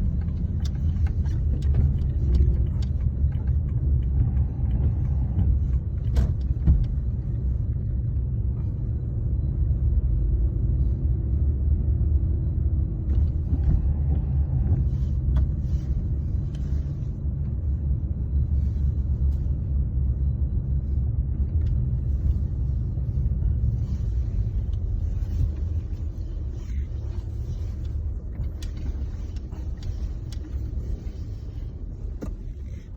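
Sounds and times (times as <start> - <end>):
low rumble: 0.0 - 32.9.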